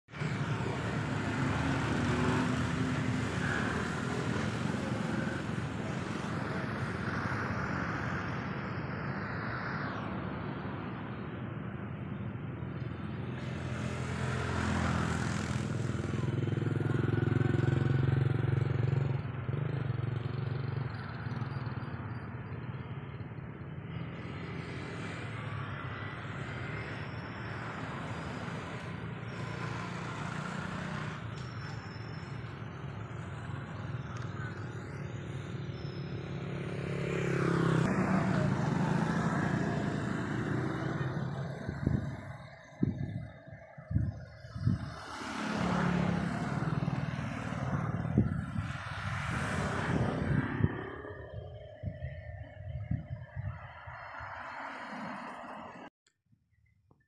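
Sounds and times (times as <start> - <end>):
cars and motorbikes passing: 0.1 - 55.9.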